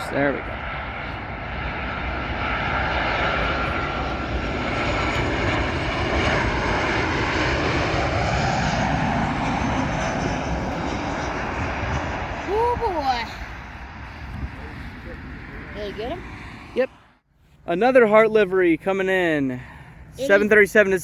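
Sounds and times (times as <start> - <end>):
jet airliner passing overhead: 0.0 - 21.0.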